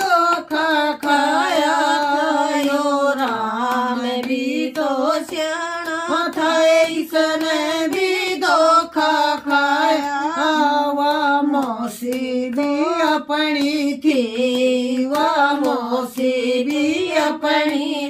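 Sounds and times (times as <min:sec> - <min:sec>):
hand claps: 0:00.0 - 0:18.0
woman singing: 0:00.0 - 0:18.0.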